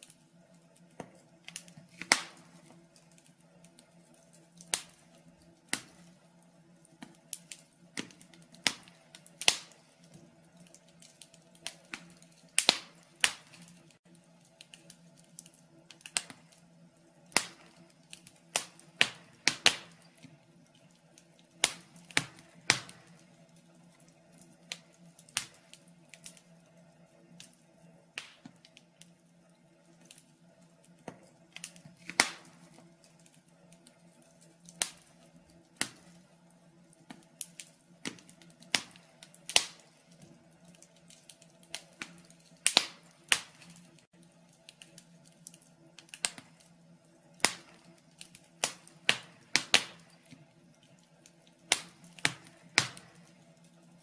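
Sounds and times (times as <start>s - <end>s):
faint steady hum: 0.0s - 54.0s
wood fire crackling and popping: 0.0s - 54.0s.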